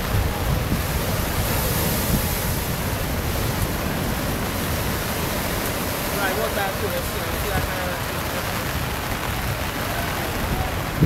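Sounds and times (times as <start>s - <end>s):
surf breaking against seawall: 0.0s - 11.0s
wind on microphone: 0.0s - 11.0s.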